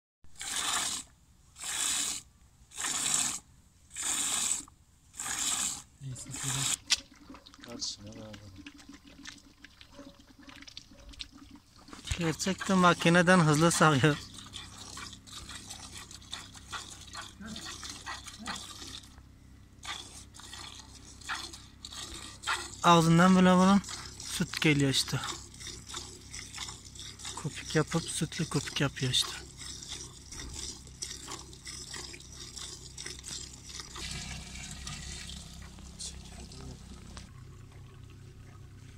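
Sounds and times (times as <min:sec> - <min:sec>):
milk squirting into plastic bucket: 0:00.4 - 0:38.1.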